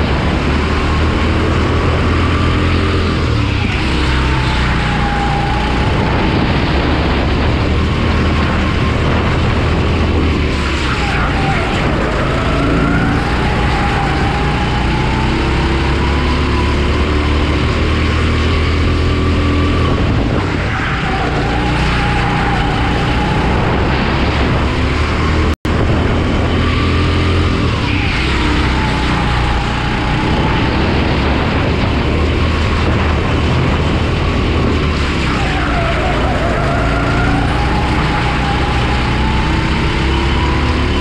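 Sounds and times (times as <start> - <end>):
kart engine accelerating and slowing: 0.0 - 41.0.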